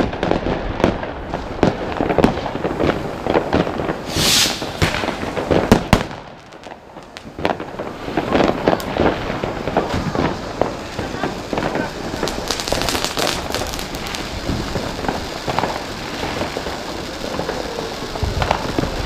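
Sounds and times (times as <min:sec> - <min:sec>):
fireworks bangs and cracks: 0:00.0 - 0:19.0
fireworks hissing burst: 0:01.2 - 0:19.0.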